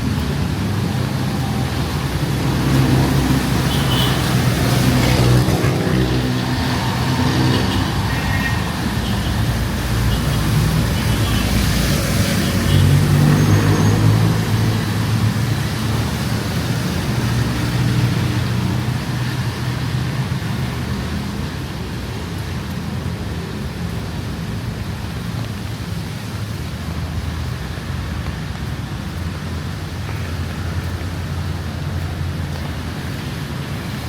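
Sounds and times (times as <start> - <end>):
road noise: 0.0 - 34.0
vehicles passing: 0.0 - 34.0.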